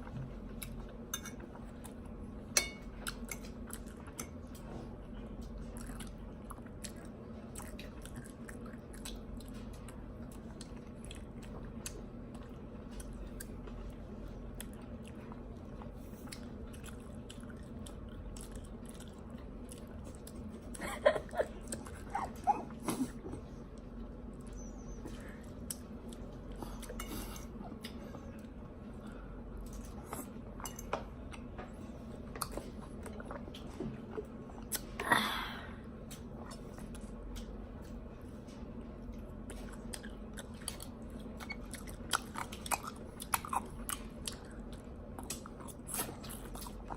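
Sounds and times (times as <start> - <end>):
people chewing food: 0.0 - 46.9
steady low hum: 0.0 - 46.9.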